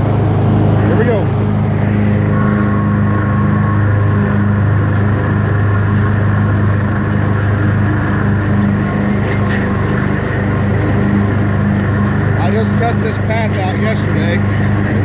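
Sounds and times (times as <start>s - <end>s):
mower engine humming: 0.0s - 15.0s.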